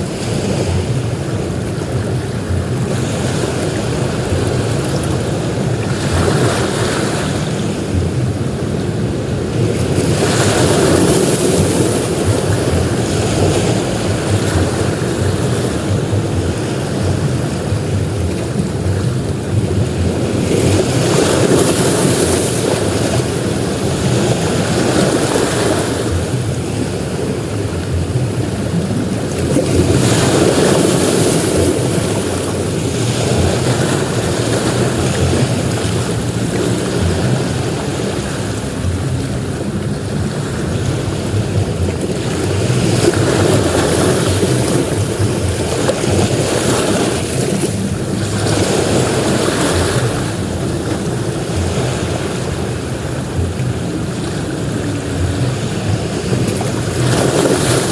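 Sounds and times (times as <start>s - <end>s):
sea surf breaking on a beach: 0.0s - 57.9s
wind rumbling on microphone: 0.0s - 57.9s.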